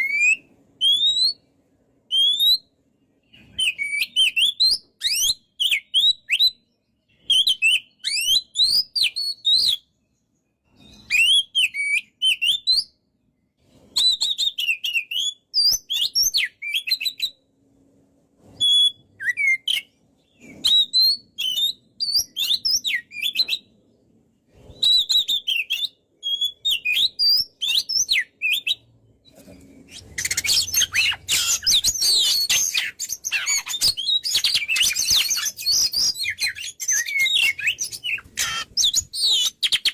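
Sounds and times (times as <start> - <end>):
songbird singing whistles and chatter: 0.0 - 1.5, 2.1 - 2.7, 3.3 - 10.0, 10.7 - 13.0, 13.8 - 17.5, 18.6 - 23.7, 24.6 - 39.9.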